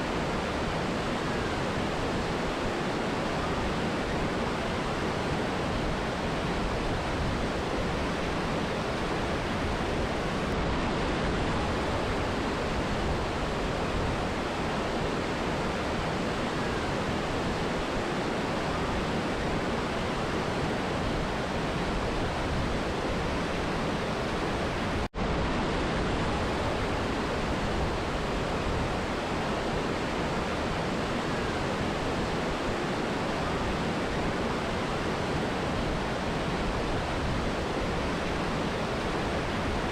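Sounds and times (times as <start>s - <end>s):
river and waterfall roaring: 0.0s - 39.9s.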